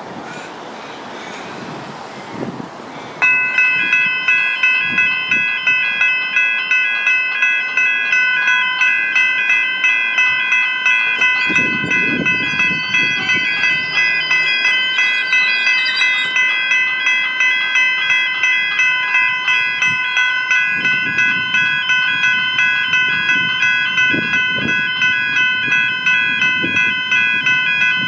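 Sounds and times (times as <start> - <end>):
level crossing bell ringing: 3.2 - 28.0.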